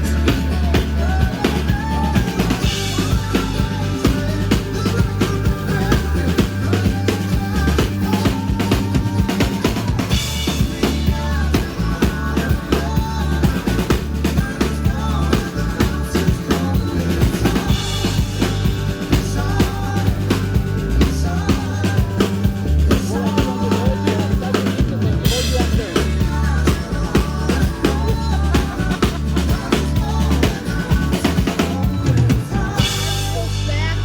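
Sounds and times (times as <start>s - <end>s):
bass line: 0.0s - 34.0s
drum kit beat: 0.0s - 34.0s.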